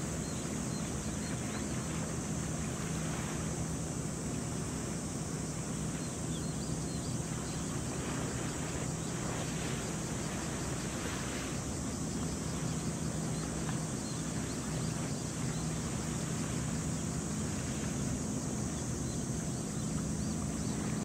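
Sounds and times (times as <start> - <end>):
ship engine drone: 0.0 - 21.0.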